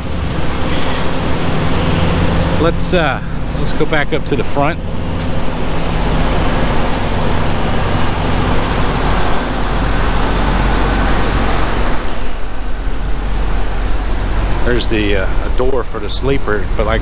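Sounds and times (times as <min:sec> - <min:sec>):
diesel truck engines droning: 0:00.0 - 0:17.0
refrigeration units humming: 0:00.0 - 0:17.0.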